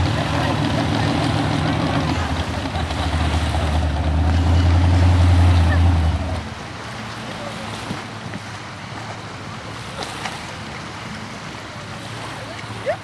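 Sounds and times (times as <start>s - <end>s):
boat engine droning: 0.0s - 13.0s
wind and water hiss: 0.0s - 13.0s.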